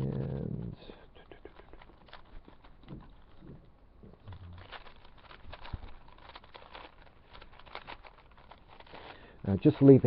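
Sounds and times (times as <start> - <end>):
puzzle cube clicking and scraping: 0.0 - 10.0.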